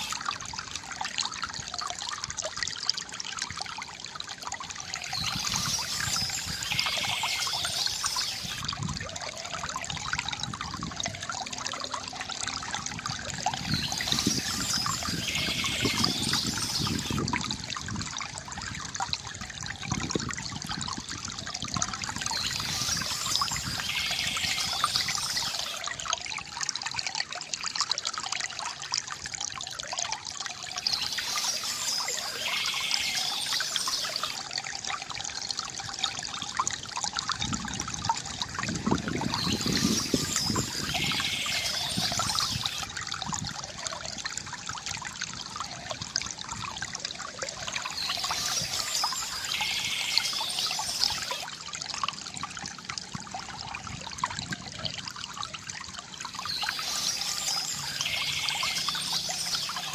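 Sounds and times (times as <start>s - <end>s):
fountain water trickling and gurgling: 0.0s - 59.9s.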